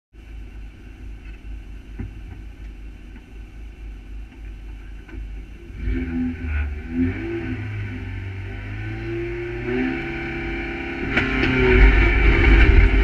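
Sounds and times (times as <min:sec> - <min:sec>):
car engine idling and revving: 0:00.2 - 0:13.0.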